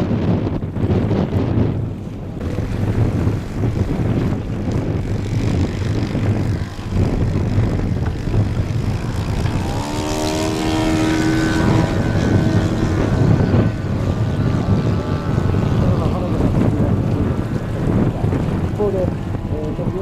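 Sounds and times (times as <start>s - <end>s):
model plane engine and propeller: 0.0s - 20.0s
wind buffeting microphone: 0.0s - 20.0s.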